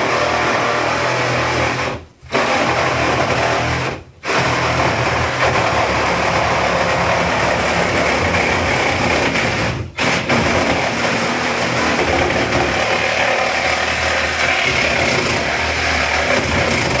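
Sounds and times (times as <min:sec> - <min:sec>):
reciprocating saw cutting: 0:00.0 - 0:17.0.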